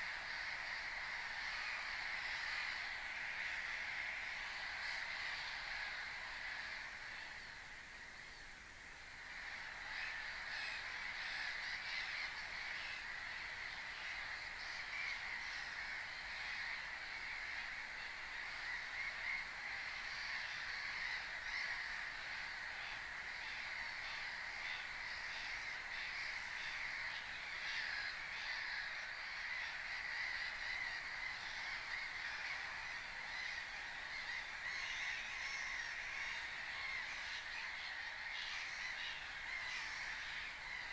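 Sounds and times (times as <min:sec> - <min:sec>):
chorus of waterbirds calling: 0:00.0 - 0:40.9.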